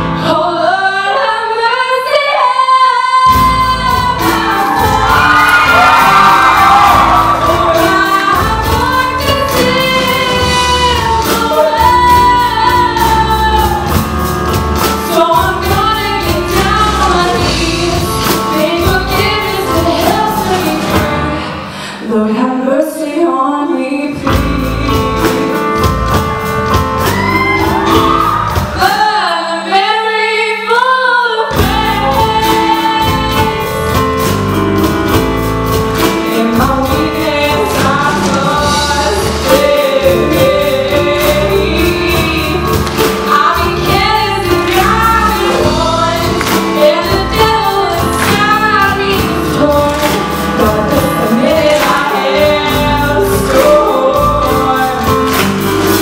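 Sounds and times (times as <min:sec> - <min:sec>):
live band playing: 0:00.0 - 0:00.6, 0:02.6 - 0:22.4, 0:23.7 - 0:30.9, 0:31.5 - 0:56.0
woman singing: 0:00.0 - 0:26.2, 0:27.1 - 0:34.1, 0:36.0 - 0:56.0.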